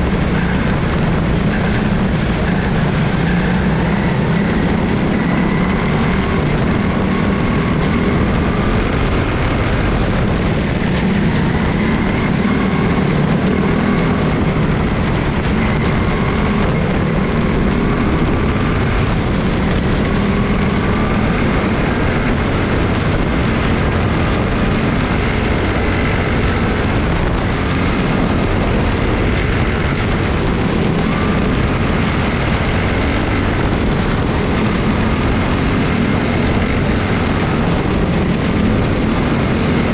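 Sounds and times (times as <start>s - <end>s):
race car engines buzzing: 0.0s - 39.9s.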